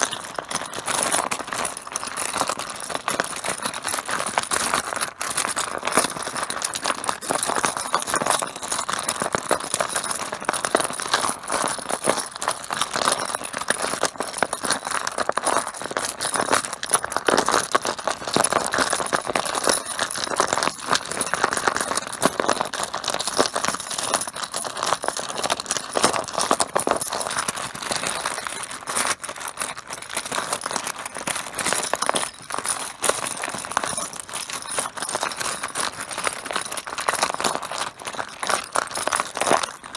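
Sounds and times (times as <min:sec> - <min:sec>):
mahjong tiles clattering: 0:00.0 - 0:39.9.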